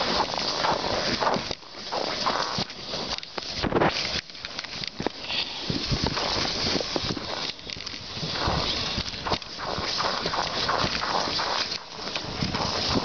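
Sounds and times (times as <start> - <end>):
sled knocks and bumps: 0.0 - 13.0
sled runners scraping over snow: 0.0 - 13.0.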